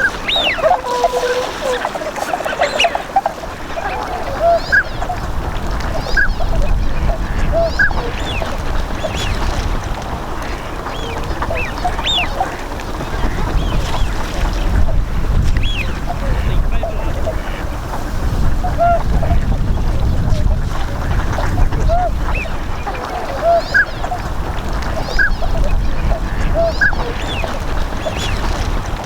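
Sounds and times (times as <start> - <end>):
swans honking: 0.0 - 29.0.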